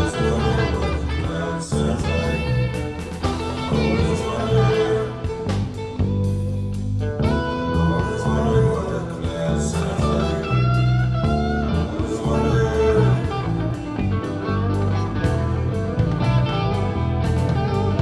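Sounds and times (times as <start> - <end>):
blues guitar with sliding notes: 0.0 - 18.0.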